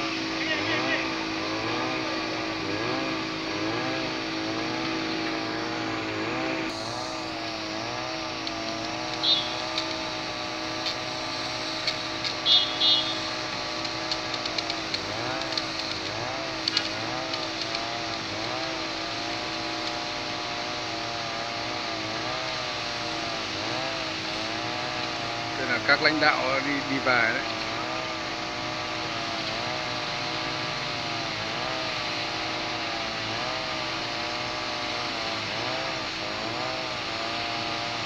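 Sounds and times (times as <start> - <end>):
street traffic: 0.0 - 38.0.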